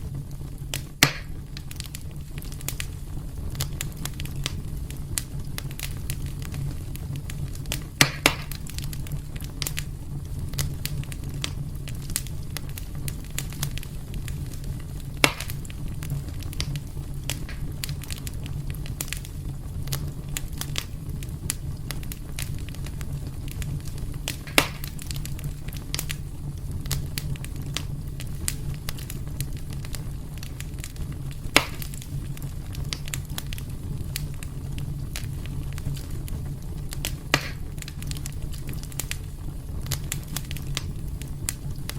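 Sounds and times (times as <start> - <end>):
loud sharp fire pops: 0.0 - 41.9
wood fire crackling: 0.0 - 41.9.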